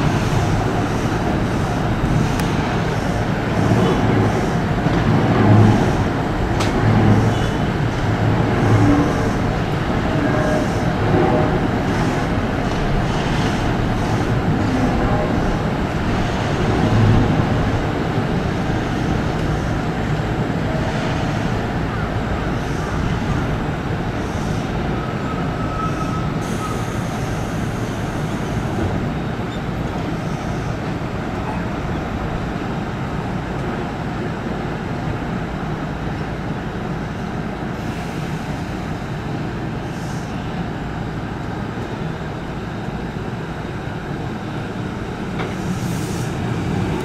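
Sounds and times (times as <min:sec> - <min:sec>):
electric train rumble and hum: 0:00.0 - 0:47.0.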